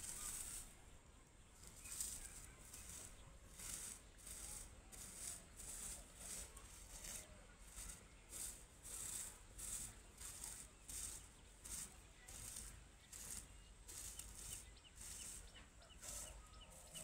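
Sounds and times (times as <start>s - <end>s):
fingers rustling dry grass: 0.0s - 17.0s.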